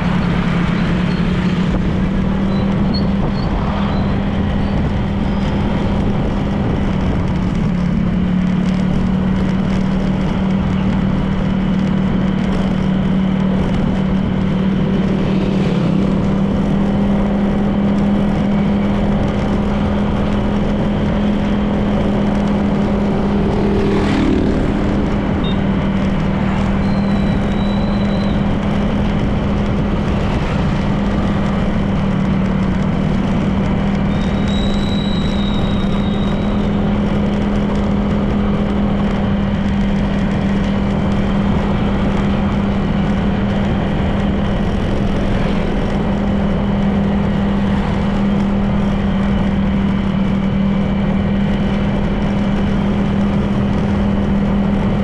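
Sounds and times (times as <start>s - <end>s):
road and wind noise: 0.0s - 55.0s
scooter engine cruising: 0.0s - 55.0s.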